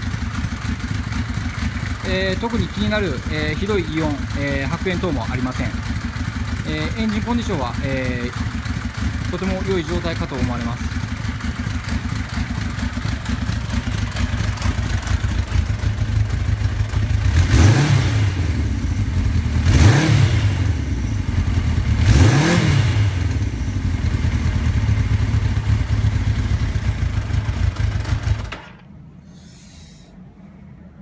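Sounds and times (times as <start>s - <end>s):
motorcycle engine idling and revving: 0.0s - 28.9s.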